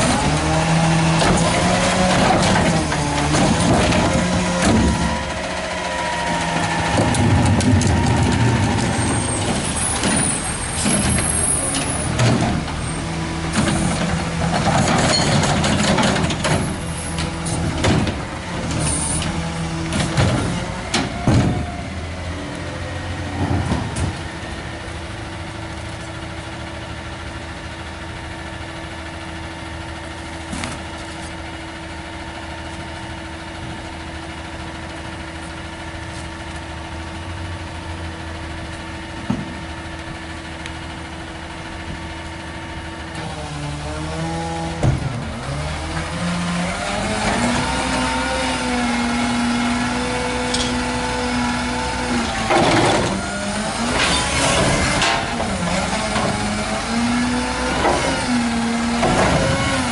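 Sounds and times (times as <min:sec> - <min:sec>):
garbage truck engine running: 0:00.0 - 0:59.9.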